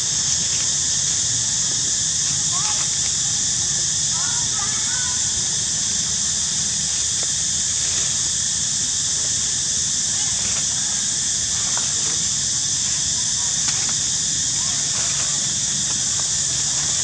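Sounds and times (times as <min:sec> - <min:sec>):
high-pitched outdoor hiss: 0:00.0 - 0:17.0.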